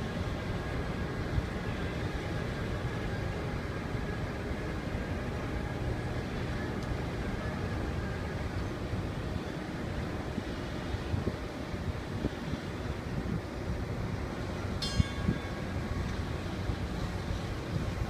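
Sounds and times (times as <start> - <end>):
faint steady whine: 0.0 - 18.0
ship machinery rumble: 0.0 - 18.0
wind buffeting microphone: 0.0 - 18.0.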